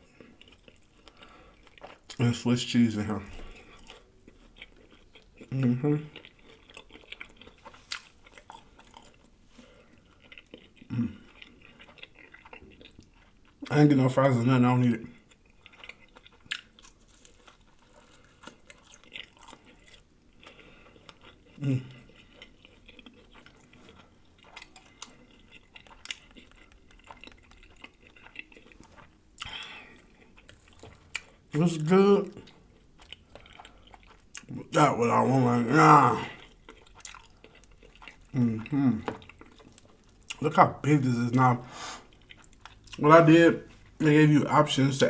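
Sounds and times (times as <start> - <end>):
person chewing wetly: 0.0 - 14.1, 15.0 - 44.9
sandwich crunch: 0.0 - 45.0.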